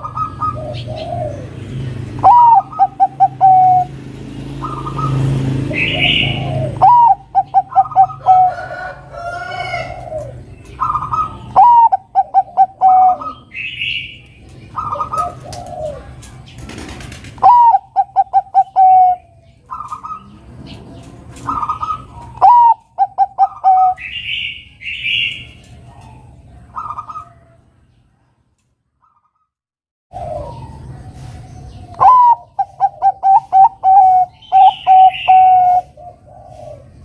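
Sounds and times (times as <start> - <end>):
dove cooing: 0.0 - 27.7, 30.1 - 37.0
higher bird calls: 2.2 - 4.0, 4.6 - 27.5, 30.1 - 37.0.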